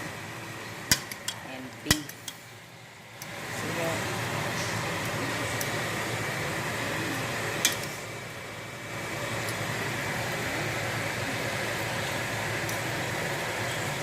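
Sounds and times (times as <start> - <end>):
fan hum and hiss: 0.0 - 14.0.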